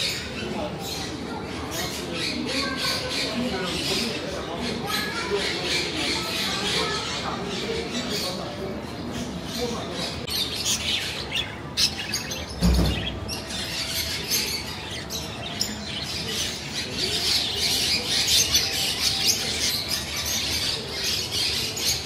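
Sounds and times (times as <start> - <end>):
parrots chirping and squawking: 0.0 - 22.0.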